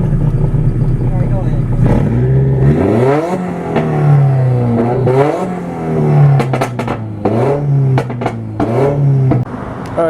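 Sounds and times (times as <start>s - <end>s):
car engine revving: 0.0s - 10.0s
exhaust pops crackling: 0.0s - 10.0s.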